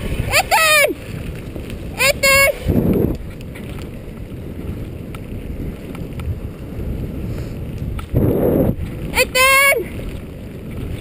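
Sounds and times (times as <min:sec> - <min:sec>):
tyres rolling over gravel: 0:00.0 - 0:11.0
wind buffeting microphone: 0:00.0 - 0:11.0.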